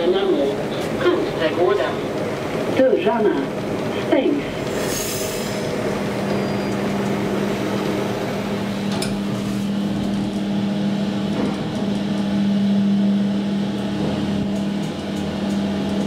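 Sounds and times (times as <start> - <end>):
elevator hum: 0.0 - 16.0.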